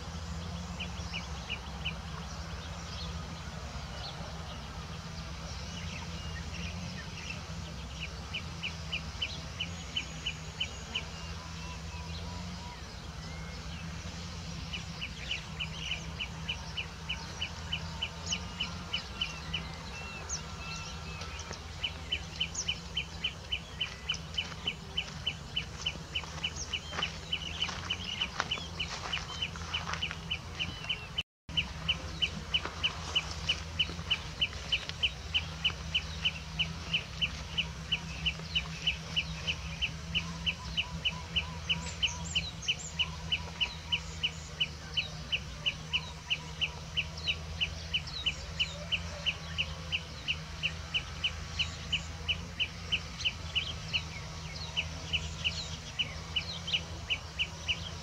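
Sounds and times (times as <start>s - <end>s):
steady low hum: 0.0s - 58.0s
sweeping bird calls: 0.0s - 58.0s.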